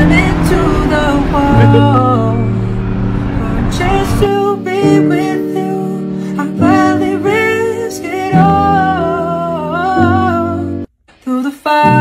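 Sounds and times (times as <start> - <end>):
guitar: 0.0 - 12.0.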